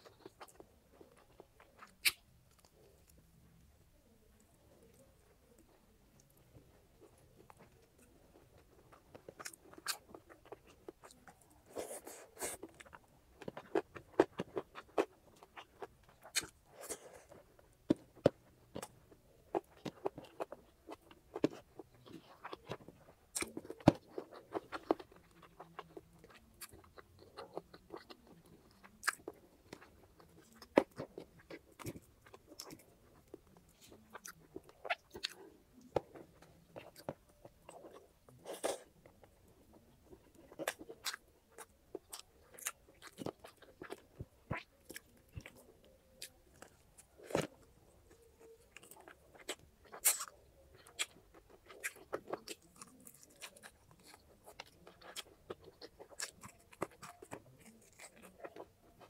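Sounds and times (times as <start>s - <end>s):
chewing and biting chicken: 7.1s - 59.0s.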